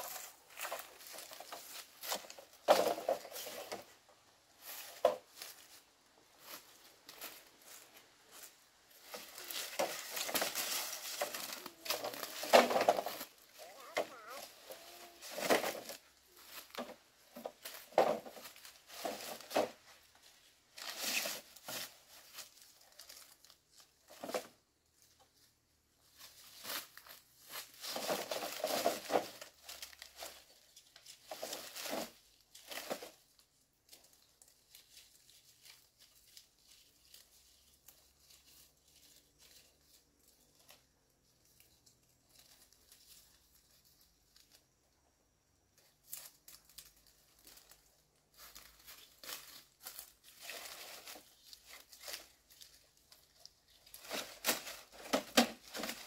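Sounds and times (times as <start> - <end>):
rustling and crinkling handling: 0.0 - 56.0.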